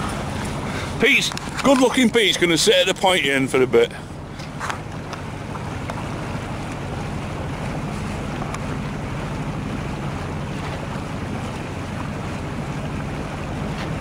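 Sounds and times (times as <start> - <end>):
boat engine running: 0.0 - 14.0
water washing past hull: 0.0 - 14.0.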